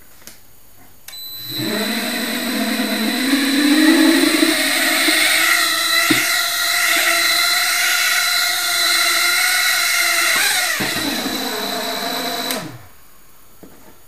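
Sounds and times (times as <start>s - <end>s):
quadcopter motors whining: 1.2s - 12.9s.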